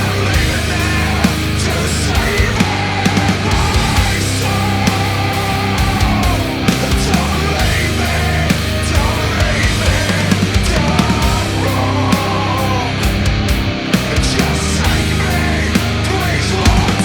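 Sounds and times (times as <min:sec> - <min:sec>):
bass guitar: 0:00.0 - 0:17.0
distorted guitar riffs: 0:00.0 - 0:17.0
fast dense drumming: 0:00.0 - 0:17.0.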